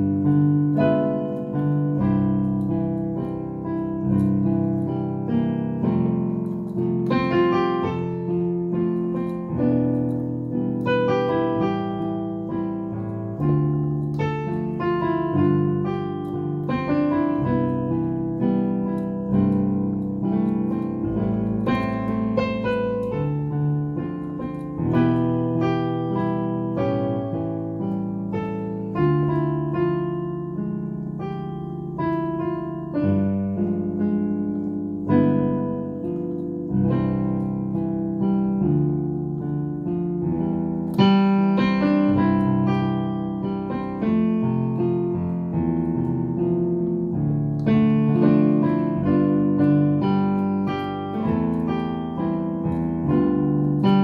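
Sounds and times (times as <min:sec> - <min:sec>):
digital piano playing: 0:00.0 - 0:54.0.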